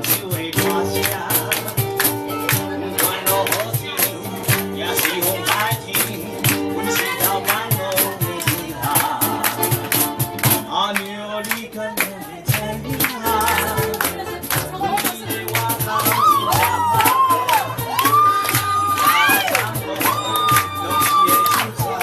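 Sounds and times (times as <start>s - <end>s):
people singing: 0.0s - 22.0s
ukulele ensemble strumming: 0.0s - 22.0s.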